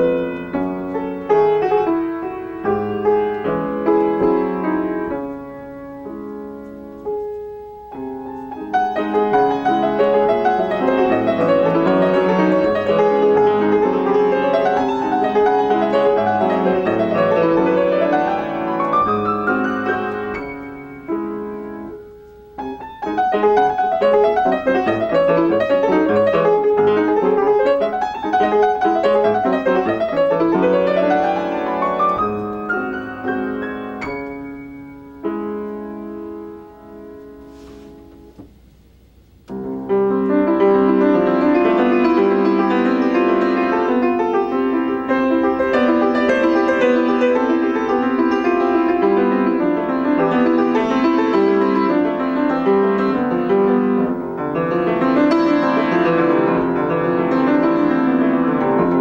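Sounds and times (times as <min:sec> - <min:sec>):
solo grand piano playing: 0:00.0 - 0:59.0.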